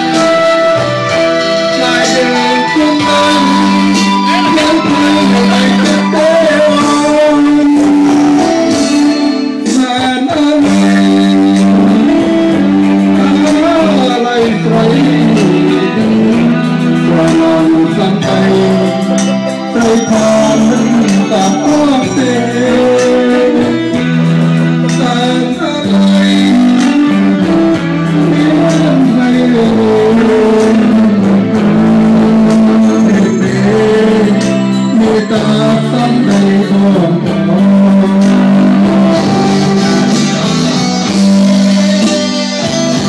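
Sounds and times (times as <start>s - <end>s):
man singing karaoke: 0.0s - 43.0s
recorded backing track: 0.0s - 43.0s.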